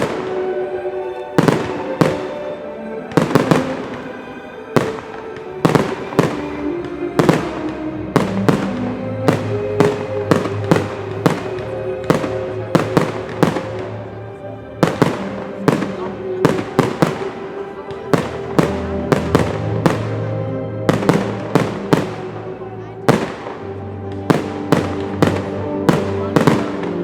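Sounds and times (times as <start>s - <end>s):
fireworks bursting with sharp bangs: 0.0s - 0.6s, 1.3s - 27.0s
music: 0.0s - 27.0s.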